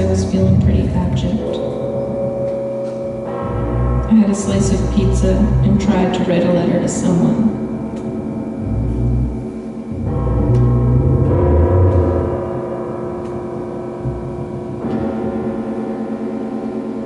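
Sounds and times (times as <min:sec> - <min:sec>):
large gong ringing: 0:00.0 - 0:17.0.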